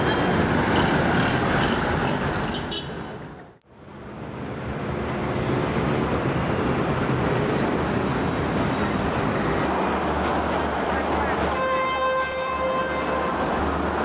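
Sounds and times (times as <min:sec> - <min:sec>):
city road traffic: 0:00.0 - 0:14.0.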